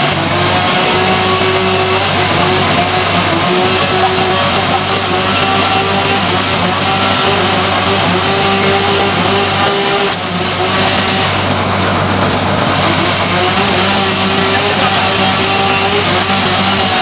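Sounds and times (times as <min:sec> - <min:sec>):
sawmill machinery humming: 0:00.0 - 0:17.0.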